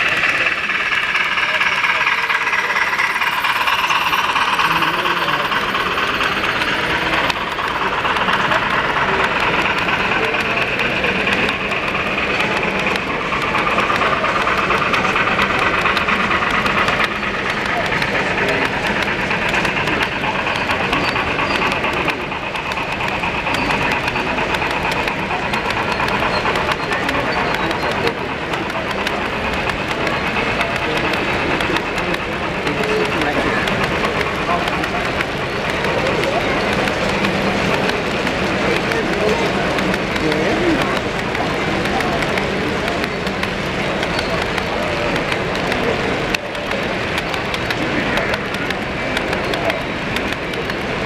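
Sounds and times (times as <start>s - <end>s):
model train wheels rolling on rails: 0.0s - 51.0s.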